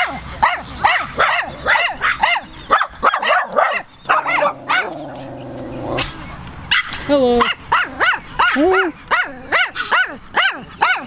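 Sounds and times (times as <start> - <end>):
small dogs yapping: 0.0 - 11.0.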